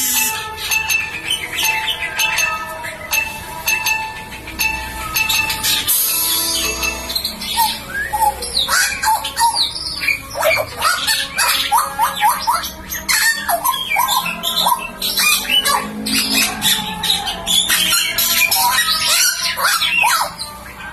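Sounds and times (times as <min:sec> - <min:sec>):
bird calling and whistling: 0:00.0 - 0:03.2, 0:04.1 - 0:20.9.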